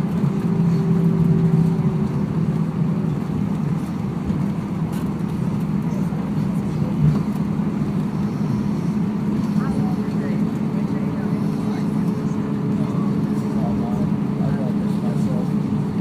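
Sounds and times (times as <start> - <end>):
airplane cabin hum: 0.0 - 16.0.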